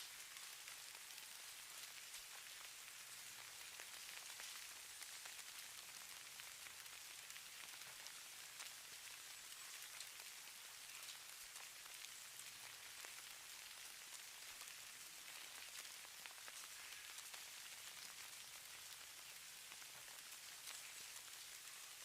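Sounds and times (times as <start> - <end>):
snow pattering with high hiss: 0.0 - 22.0.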